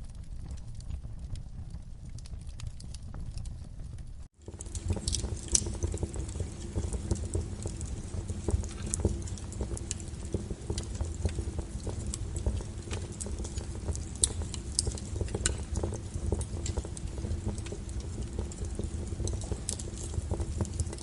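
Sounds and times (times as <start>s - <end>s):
low rumble of flame: 0.0s - 21.0s
wood fire crackling and popping: 0.0s - 21.0s.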